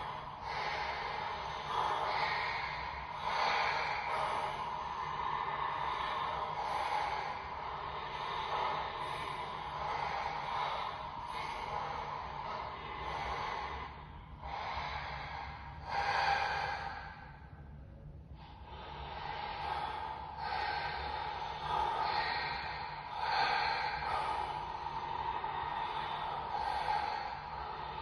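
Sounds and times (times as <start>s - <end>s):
breathy swells: 0.0s - 28.0s
faint low hum: 0.0s - 28.0s.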